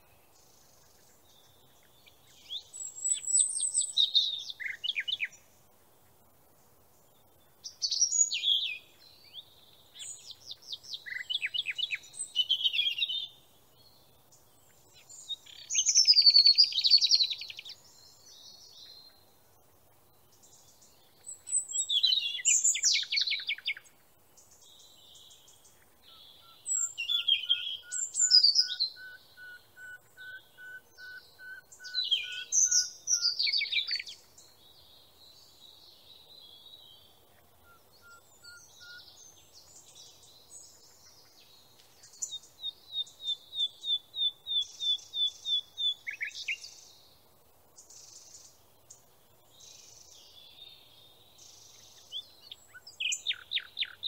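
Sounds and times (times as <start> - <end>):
songbird trills and whistles: 0.0 - 5.5, 7.6 - 13.4, 14.6 - 19.2, 20.3 - 23.9, 24.5 - 47.2, 47.8 - 54.0.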